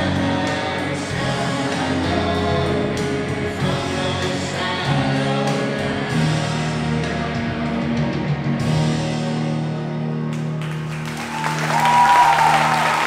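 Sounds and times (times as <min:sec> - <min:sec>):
show music with singing: 0:00.0 - 0:13.0.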